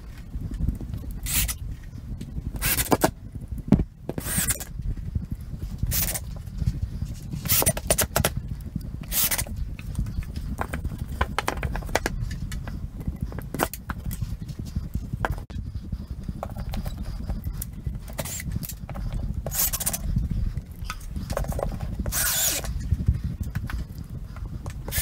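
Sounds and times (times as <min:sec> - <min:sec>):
camera handling rumble: 0:00.0 - 0:25.0.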